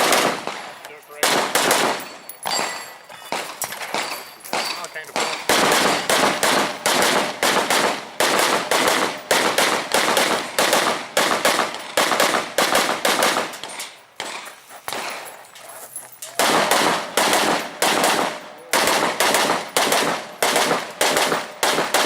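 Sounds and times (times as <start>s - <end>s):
rifle gunshots: 0.0s - 15.2s, 16.4s - 22.0s.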